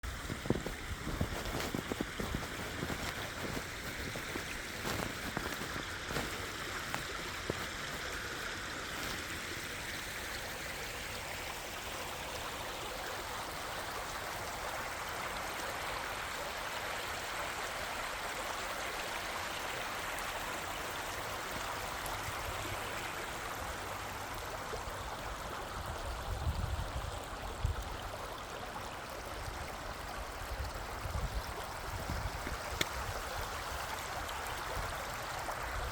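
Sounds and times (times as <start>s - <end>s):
river water flowing over rocks: 0.0s - 35.9s.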